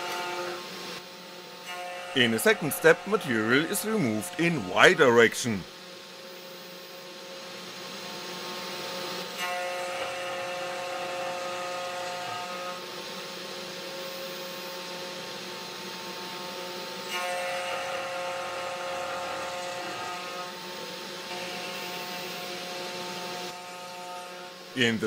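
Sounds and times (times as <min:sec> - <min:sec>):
router spindle whine: 0:00.0 - 0:24.8.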